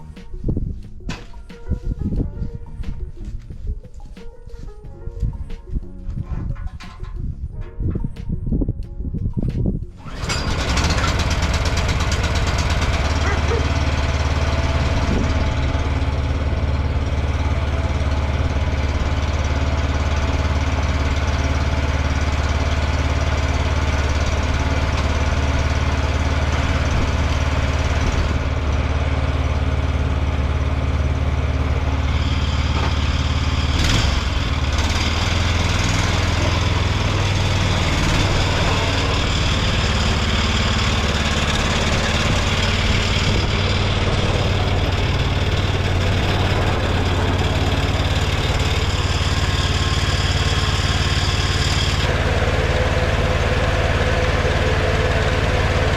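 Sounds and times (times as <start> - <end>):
small tractor engine running: 9.4 - 55.9.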